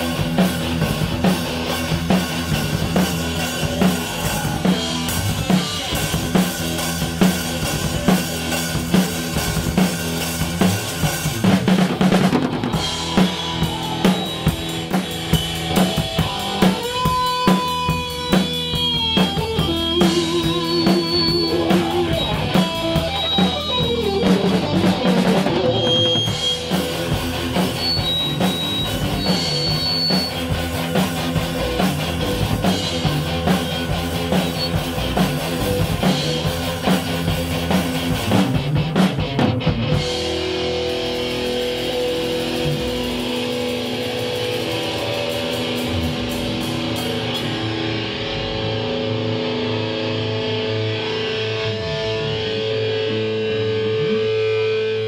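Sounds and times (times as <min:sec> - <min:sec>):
drum kit hit hard: 0:00.0 - 0:48.1
bass guitar: 0:00.0 - 0:55.0
electric guitar: 0:00.0 - 0:55.0.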